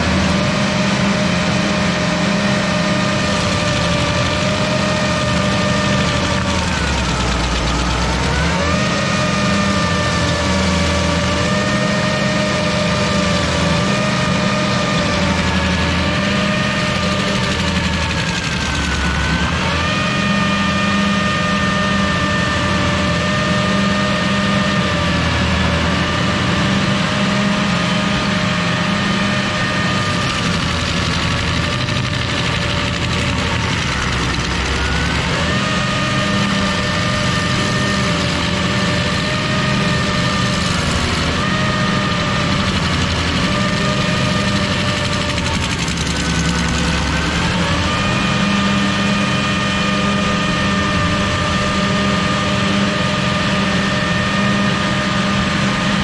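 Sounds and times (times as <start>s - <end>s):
stump grinder grinding wood: 0.0s - 56.0s.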